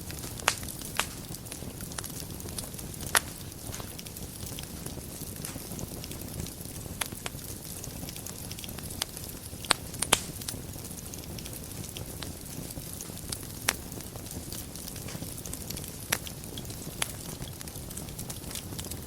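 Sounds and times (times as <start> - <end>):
fire crackles and pops: 0.0 - 19.0
wood fire burning: 0.0 - 19.0.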